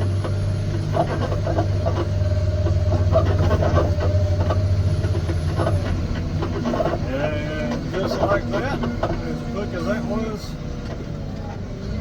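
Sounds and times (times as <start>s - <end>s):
diesel engine humming: 0.0s - 12.0s
engine whine: 0.0s - 12.0s
truck rattling and knocking: 0.0s - 12.0s.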